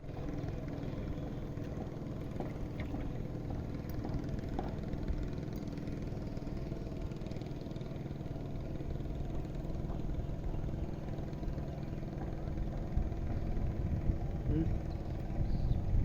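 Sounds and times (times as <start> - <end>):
low wind rumble: 0.0 - 16.0
small engine running: 0.0 - 16.0.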